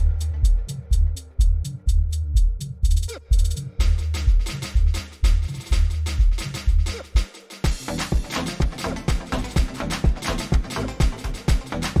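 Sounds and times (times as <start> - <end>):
electronic dance music: 0.0 - 2.2, 2.9 - 12.0.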